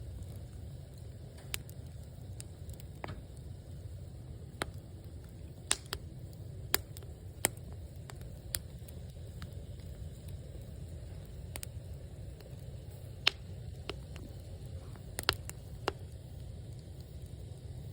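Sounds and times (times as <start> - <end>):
fire low rumble: 0.0 - 17.9
firewood crackling and popping: 0.0 - 17.9.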